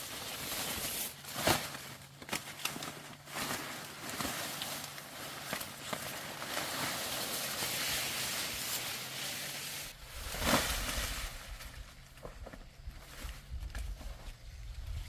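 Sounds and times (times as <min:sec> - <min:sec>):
rustling and brushing: 0:00.0 - 0:15.0.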